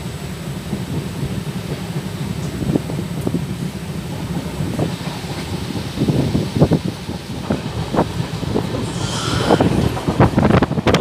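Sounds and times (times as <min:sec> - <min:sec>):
train wheels rumbling on rails: 0:00.0 - 0:11.0
wind across microphone: 0:00.0 - 0:11.0.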